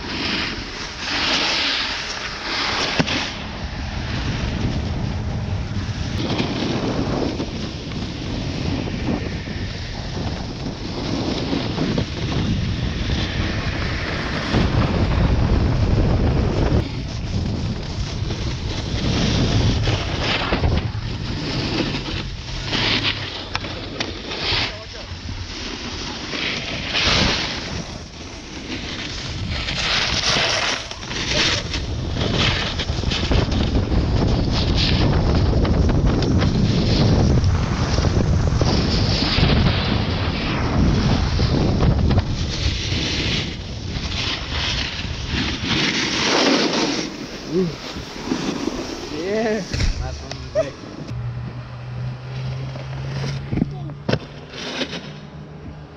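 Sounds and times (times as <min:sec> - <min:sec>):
low rumble: 0:00.0 - 0:55.9
snowboard scraping over snow: 0:00.0 - 0:55.9
wind buffeting microphone: 0:02.0 - 0:23.9, 0:26.6 - 0:54.0.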